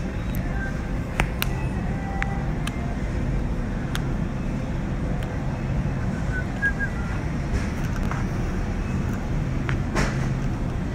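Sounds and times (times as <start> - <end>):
low store background rumble: 0.0 - 10.9.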